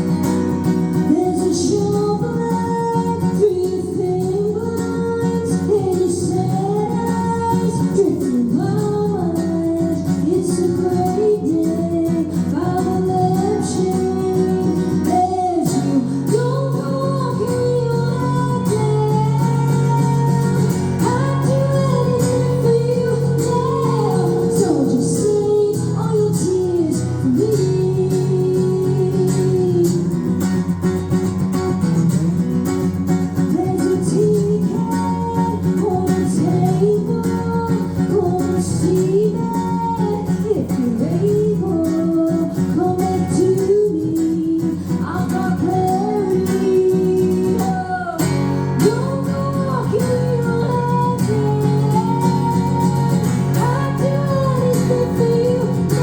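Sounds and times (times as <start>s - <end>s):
guitar accompaniment: 0.0s - 56.0s
woman singing: 0.0s - 56.0s.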